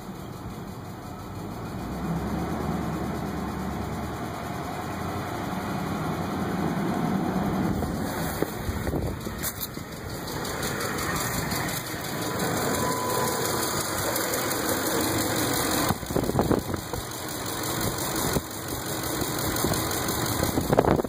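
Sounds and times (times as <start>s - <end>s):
engine idling with lifter tick: 0.0s - 6.3s, 7.7s - 21.0s.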